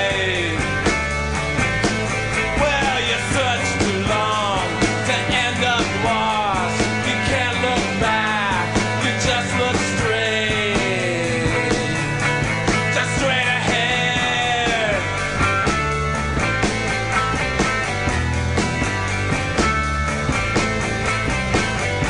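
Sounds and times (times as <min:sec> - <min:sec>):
drum beat: 0:00.0 - 0:22.0.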